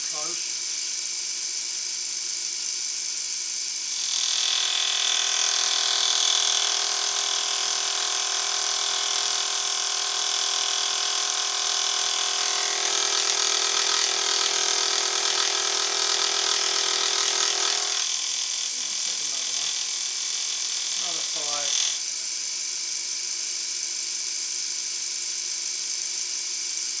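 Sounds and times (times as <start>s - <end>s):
milling machine whine: 0.0s - 27.0s.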